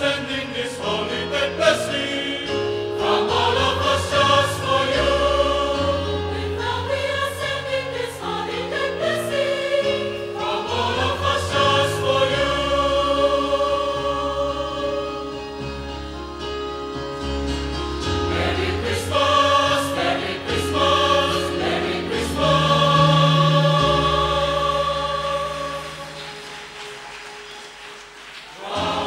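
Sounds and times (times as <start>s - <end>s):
mixed choir singing in harmony: 0.0s - 15.9s, 18.0s - 29.0s.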